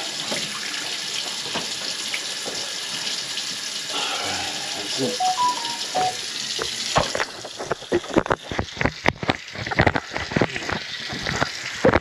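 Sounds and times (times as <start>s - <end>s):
water splashing in a sink: 0.0s - 12.0s.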